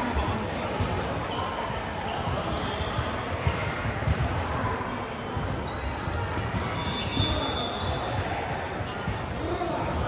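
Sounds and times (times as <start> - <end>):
sneakers squeaking: 0.0 - 10.0.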